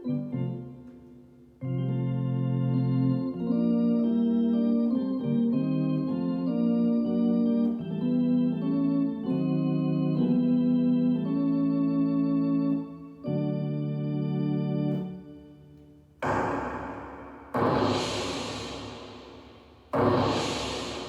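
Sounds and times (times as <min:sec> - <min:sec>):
synthesizer organ chords: 0:00.0 - 0:21.0.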